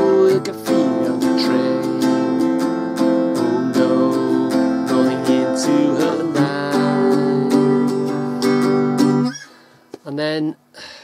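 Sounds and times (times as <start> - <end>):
acoustic guitar strumming: 0.0 - 9.7.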